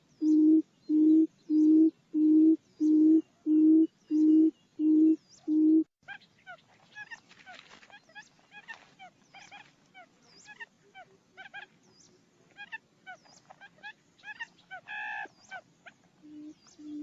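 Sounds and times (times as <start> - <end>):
quail calls high chirps: 0.2 - 11.8, 12.5 - 17.0.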